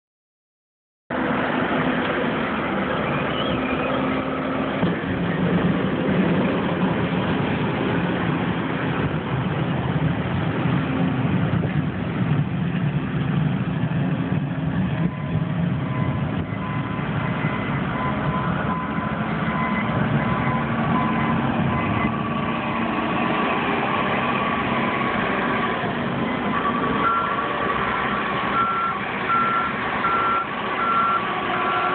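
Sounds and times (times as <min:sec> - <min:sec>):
heavy diesel engines running: 0:01.1 - 0:31.9.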